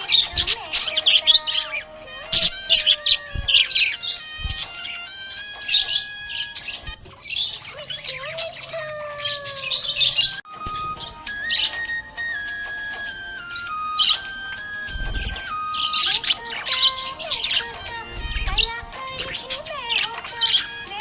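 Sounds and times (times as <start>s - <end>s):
background music: 0.0s - 7.1s, 10.0s - 21.0s
budgerigars chirping: 0.0s - 21.0s.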